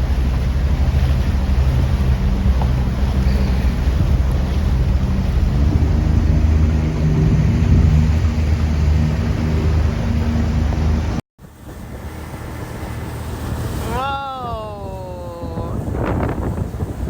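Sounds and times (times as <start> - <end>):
speedboat motor running: 0.0 - 17.0
wind rushing over microphone: 0.0 - 17.0.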